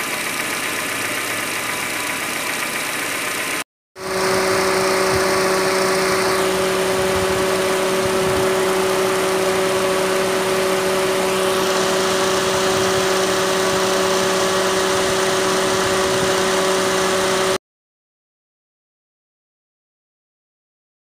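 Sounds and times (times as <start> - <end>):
radiator cooling fan running: 0.0 - 17.6.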